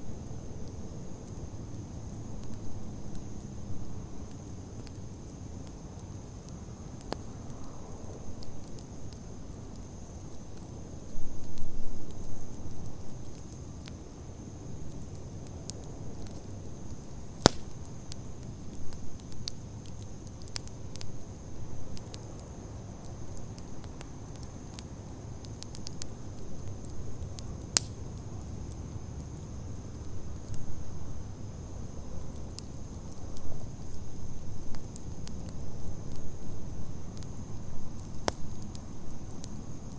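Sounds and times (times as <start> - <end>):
campfire flames rumbling: 0.0 - 39.9
fire crackles and pops: 0.0 - 39.9.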